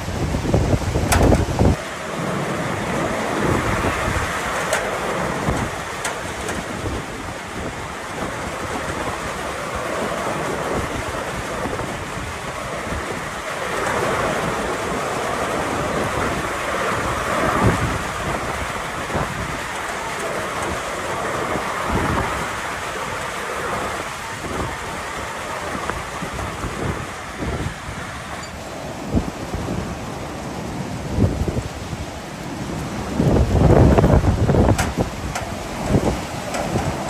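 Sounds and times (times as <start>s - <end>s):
rain: 0.0s - 37.0s
storm wind gusting: 0.0s - 37.0s
wind buffeting microphone: 0.0s - 37.0s.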